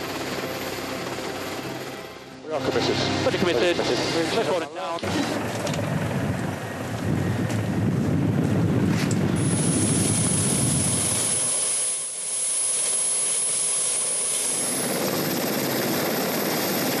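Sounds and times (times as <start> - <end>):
helicopter rotor rush: 0.0 - 17.0
high turbine whine: 0.0 - 17.0.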